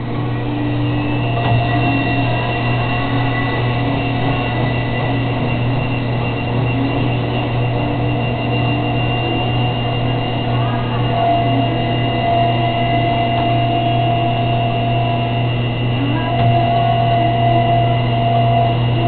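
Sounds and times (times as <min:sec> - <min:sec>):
high whining tone: 0:00.0 - 0:19.0
washer motor hum: 0:00.0 - 0:19.0.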